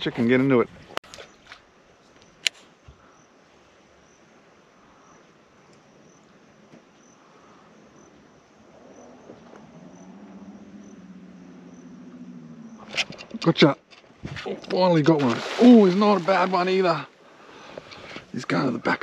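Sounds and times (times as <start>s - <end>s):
insects chirping: 1.1s - 19.0s.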